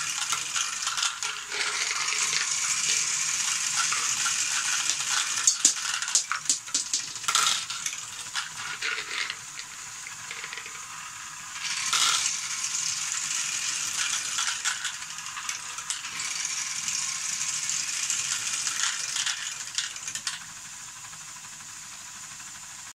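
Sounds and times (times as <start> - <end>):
plastic balls clicking down ramps: 0.0 - 21.2.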